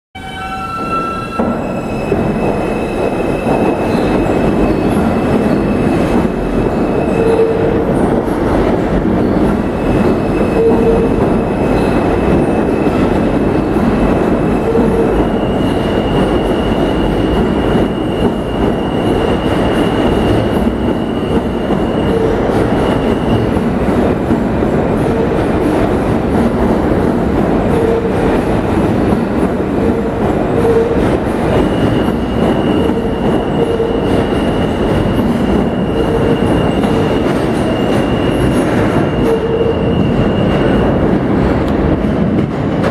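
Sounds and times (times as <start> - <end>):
train wheels rumbling on rail: 0.2 - 42.9.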